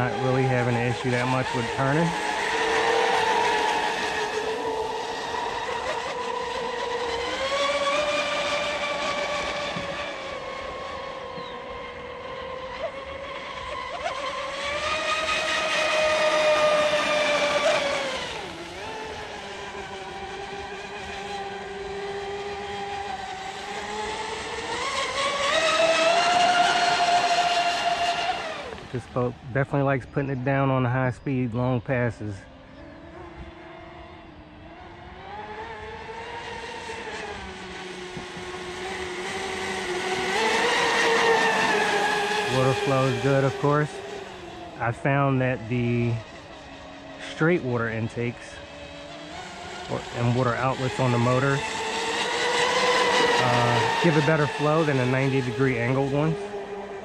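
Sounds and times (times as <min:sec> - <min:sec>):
electric motor whining: 0:00.0 - 0:30.3, 0:32.5 - 0:57.0.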